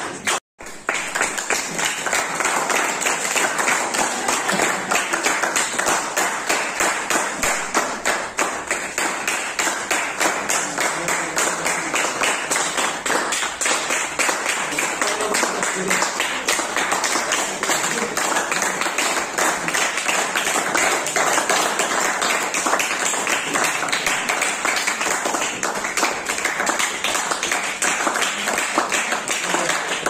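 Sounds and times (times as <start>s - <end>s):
people clapping steadily: 0.0s - 30.0s.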